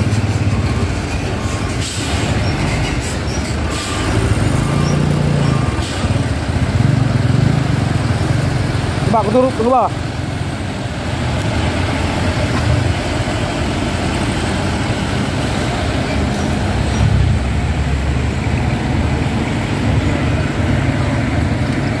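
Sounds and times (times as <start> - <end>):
road traffic driving past: 0.0 - 22.0.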